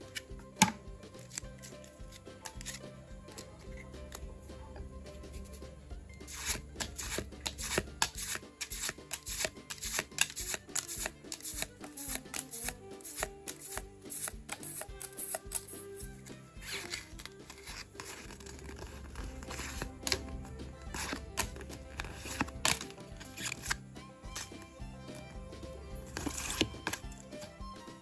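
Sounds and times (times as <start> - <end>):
cards sliding rub: 0.0 - 28.0
cards snapping off a stack: 0.1 - 4.3, 6.3 - 15.9, 16.6 - 25.3, 26.1 - 28.0.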